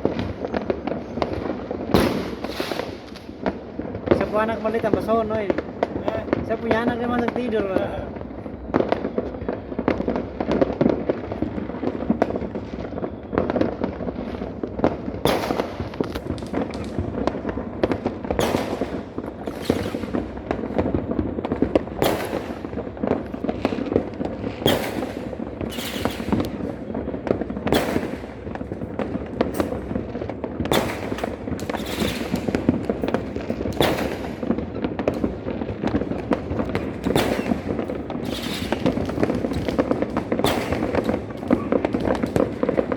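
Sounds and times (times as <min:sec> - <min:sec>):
fireworks crackling: 0:00.0 - 0:42.9
sharp firework bangs: 0:00.0 - 0:42.9.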